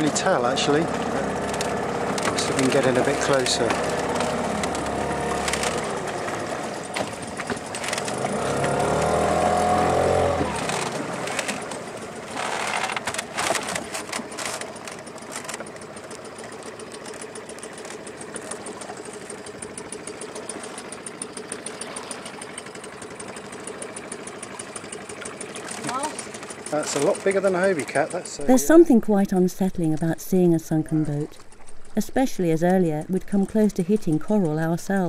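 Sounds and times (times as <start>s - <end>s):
quiet water sounds: 0.0s - 35.0s
small outboard motor running: 0.0s - 35.0s
water splashing: 0.0s - 35.0s.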